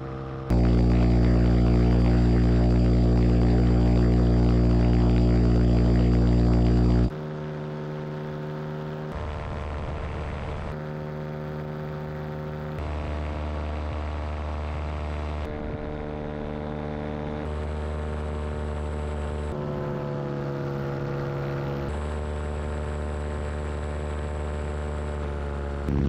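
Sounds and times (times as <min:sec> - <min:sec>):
paramotor engine drone: 0:00.0 - 0:26.0.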